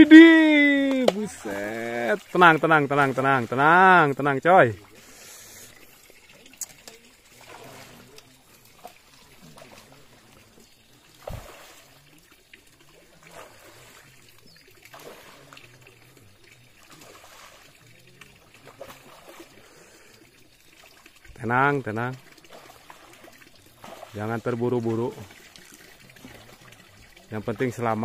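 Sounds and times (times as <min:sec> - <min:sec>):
pond water trickling: 0:00.0 - 0:28.0.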